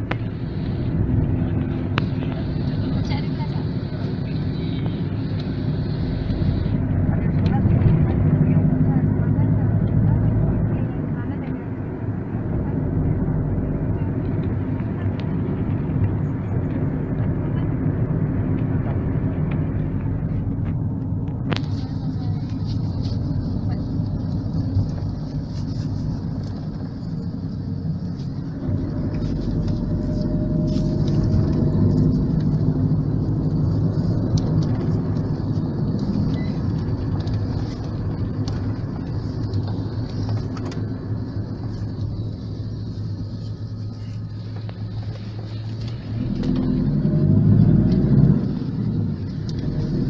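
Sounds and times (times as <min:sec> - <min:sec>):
van engine and road rumble: 0:00.0 - 0:50.0.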